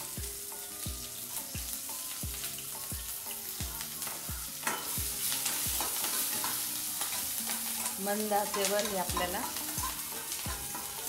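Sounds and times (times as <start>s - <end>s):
chillies sizzling in oil: 0.0s - 11.0s.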